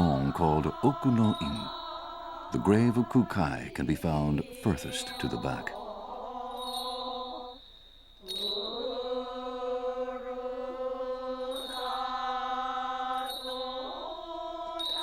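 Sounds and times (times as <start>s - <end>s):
voices chanting long held notes: 0.0s - 7.6s, 8.2s - 15.0s.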